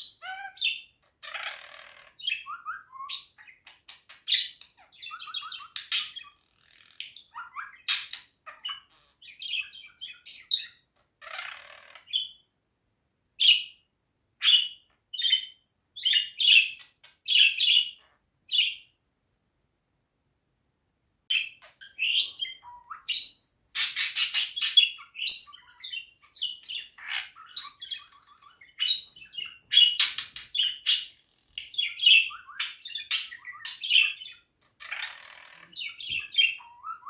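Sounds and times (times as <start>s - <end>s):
budgerigar chirping: 0.0s - 12.4s, 14.4s - 18.9s, 21.3s - 37.0s.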